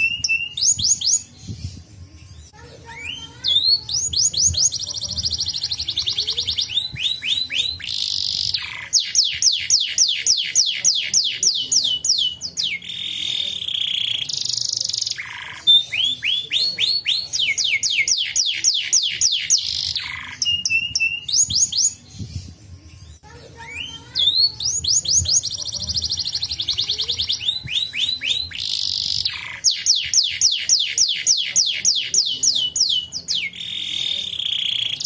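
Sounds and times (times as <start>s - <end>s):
canary singing: 0.0s - 35.0s.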